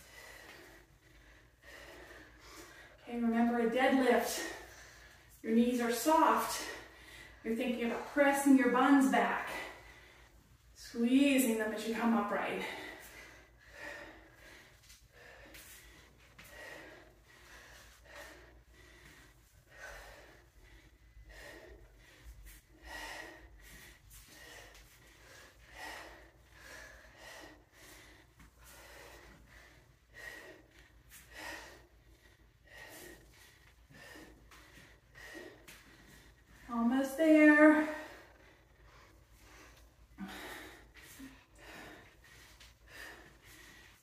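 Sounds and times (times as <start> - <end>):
person breathing hard: 0.0 - 3.1, 6.0 - 44.0.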